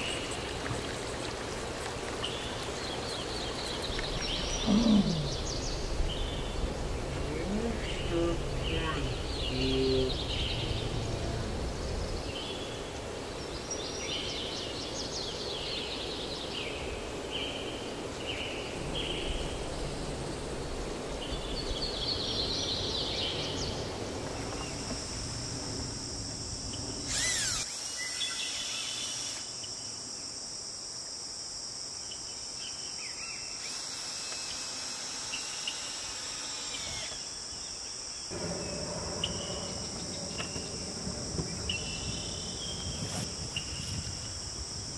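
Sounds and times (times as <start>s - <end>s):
birds chirping: 0.0s - 20.5s, 21.1s - 29.4s, 32.6s - 44.0s
high insect trill: 0.0s - 44.9s.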